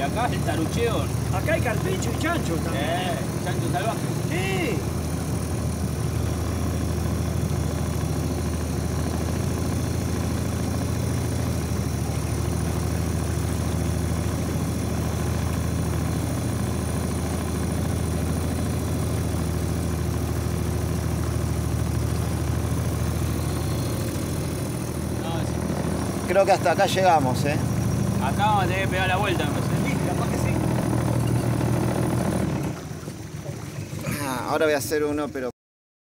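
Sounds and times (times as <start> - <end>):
motorboat engine droning: 0.0 - 35.5.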